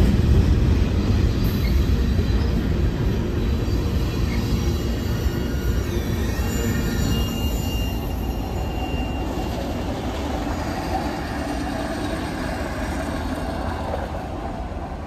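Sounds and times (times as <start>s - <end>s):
truck rumbling on rail track: 0.0s - 15.0s.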